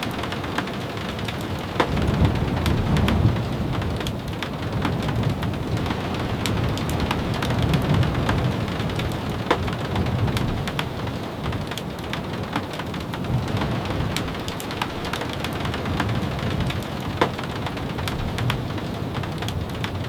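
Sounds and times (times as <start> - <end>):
sharp ticks and crackles: 0.0 - 20.0
steady rain: 0.0 - 20.0
rolling thunder: 0.9 - 20.0.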